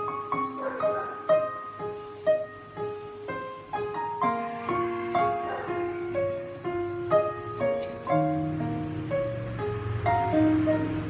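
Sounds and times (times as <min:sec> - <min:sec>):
keyboard piano melody: 0:00.0 - 0:11.0.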